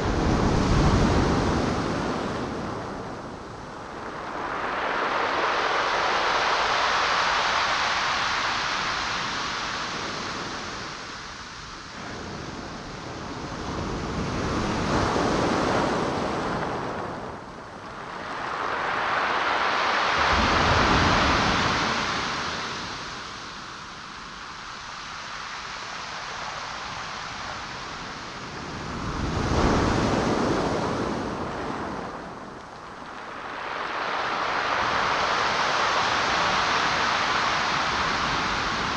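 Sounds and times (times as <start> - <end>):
deep rumble of surf: 0.0 - 38.9
waves breaking: 0.0 - 38.9.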